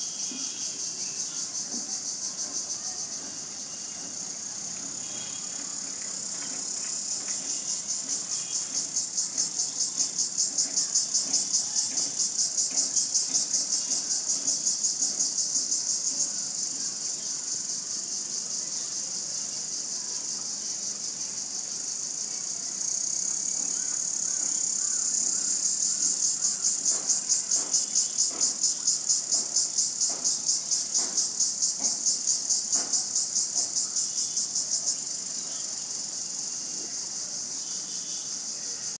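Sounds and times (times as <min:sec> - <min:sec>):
insect chorus shrilling: 0:00.0 - 0:39.0.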